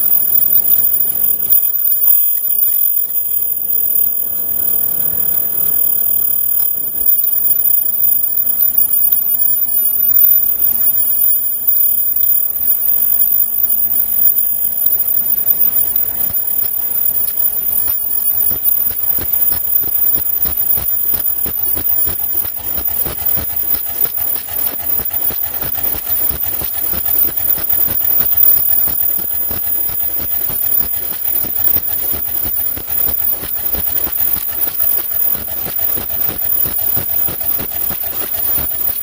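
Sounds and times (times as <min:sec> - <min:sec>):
fast repeated ticking: 0:00.0 - 0:39.0
machine running: 0:00.0 - 0:39.0
thin high tone: 0:00.0 - 0:39.0.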